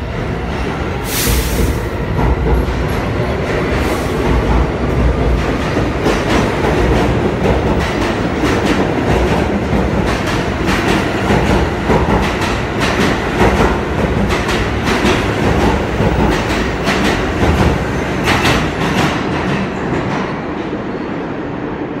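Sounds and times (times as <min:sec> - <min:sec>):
subway train rumbling past: 0:00.0 - 0:22.0
train wheels clacking: 0:01.1 - 0:20.7.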